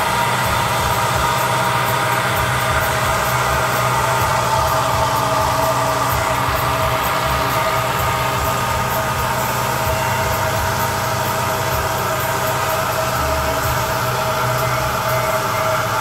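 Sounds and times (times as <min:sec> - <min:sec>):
steady whine: 0:00.0 - 0:16.0
tractor engine running under load: 0:00.0 - 0:16.0.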